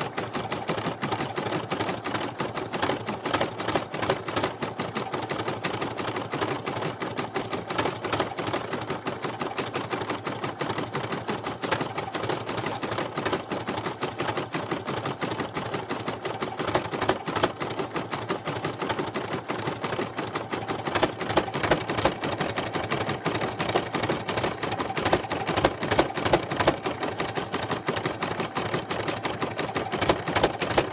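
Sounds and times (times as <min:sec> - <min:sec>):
embroidery machine needle clatter: 0:00.0 - 0:30.9.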